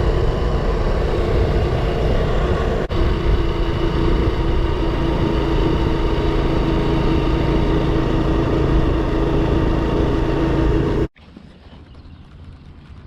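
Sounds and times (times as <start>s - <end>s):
motorcycle engine running steadily: 0.0s - 11.1s
rushing noise: 0.0s - 11.1s.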